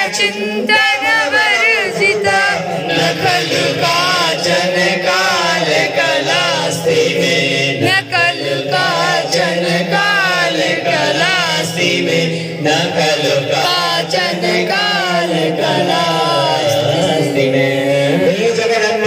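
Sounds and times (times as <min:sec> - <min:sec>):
person singing a hymn: 0:00.0 - 0:19.0.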